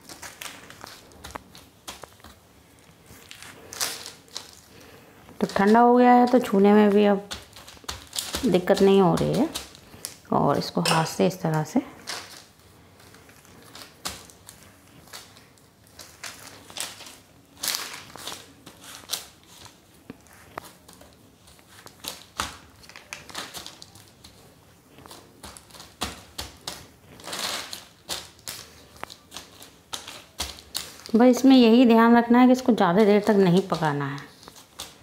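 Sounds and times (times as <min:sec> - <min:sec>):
paper crinkling and rustling: 0:00.0 - 0:35.0.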